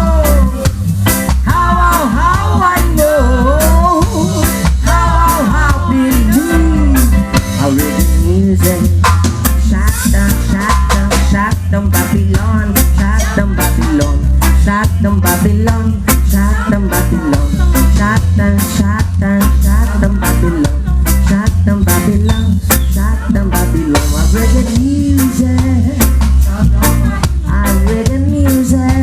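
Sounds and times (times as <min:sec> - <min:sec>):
live reggae band: 0:00.0 - 0:29.0.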